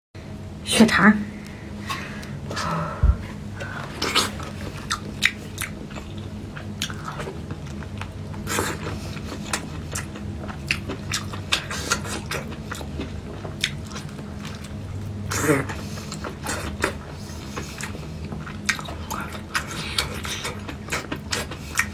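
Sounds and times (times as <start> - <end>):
person chewing crunchy food: 2.5 - 21.9.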